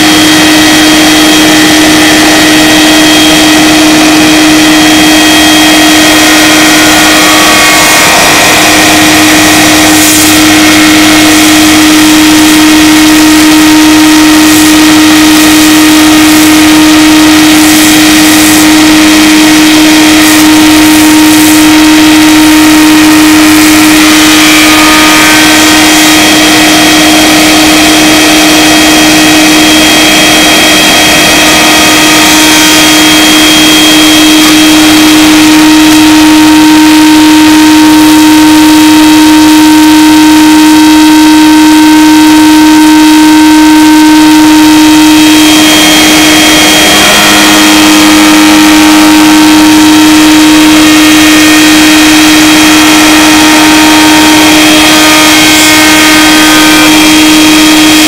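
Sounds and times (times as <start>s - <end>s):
cutter cutting wood: 0.0s - 58.0s
spindle shaper whine: 0.0s - 58.0s.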